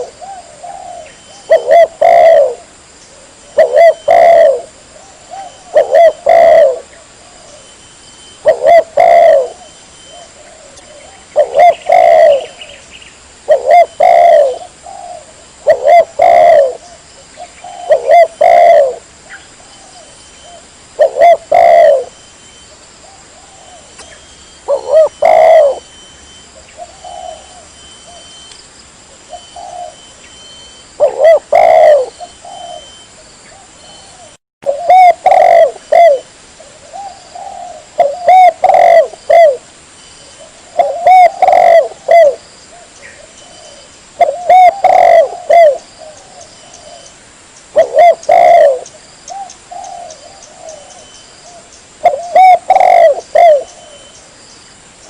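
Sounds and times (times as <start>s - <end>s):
dove cooing: 0.0s - 12.8s, 13.4s - 22.2s, 23.0s - 28.5s, 29.1s - 47.1s, 47.7s - 54.2s.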